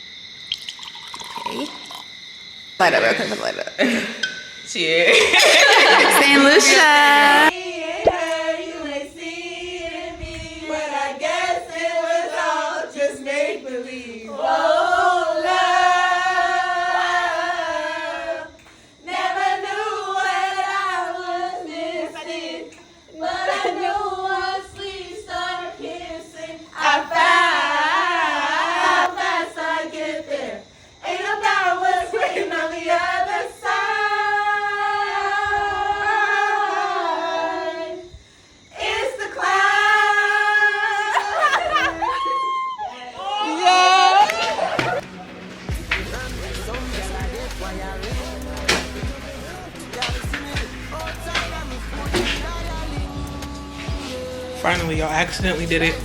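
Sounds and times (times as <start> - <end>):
group singing without instruments: 1.2 - 56.0.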